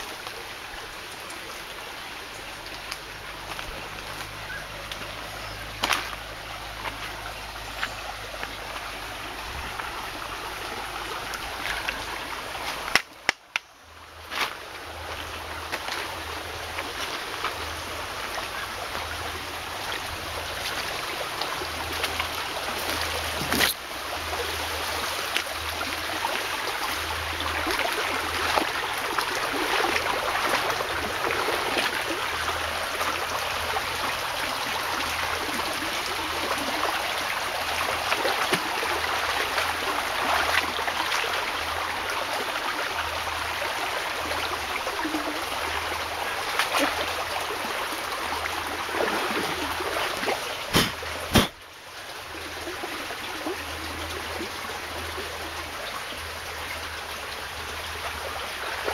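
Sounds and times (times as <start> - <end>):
stream babbling over rocks: 0.0 - 58.9.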